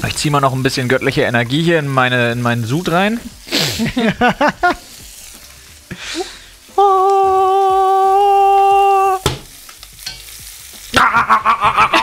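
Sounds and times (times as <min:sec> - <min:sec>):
frying pan sizzling faintly: 0:00.0 - 0:12.0.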